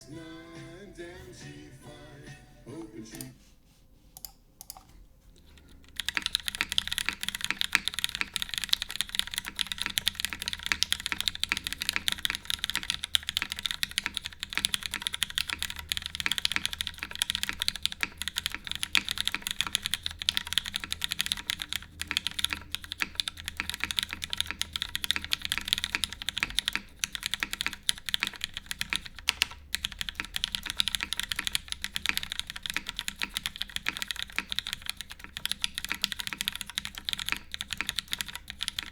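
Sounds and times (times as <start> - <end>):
fast typing on mechanical keyboard: 5.4 - 38.9.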